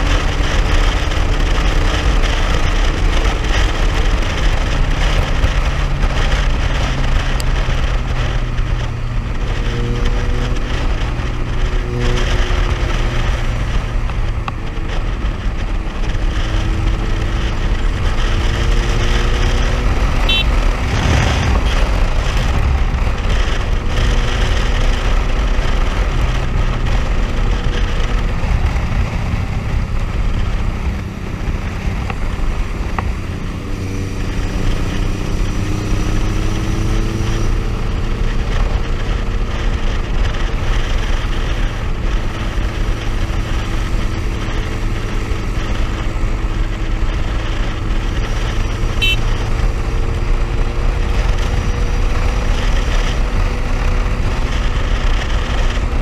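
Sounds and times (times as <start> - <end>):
motorcycle engine cruising: 0.0 - 56.0
other vehicle engines: 0.0 - 56.0
wind noise on microphone: 0.0 - 56.0.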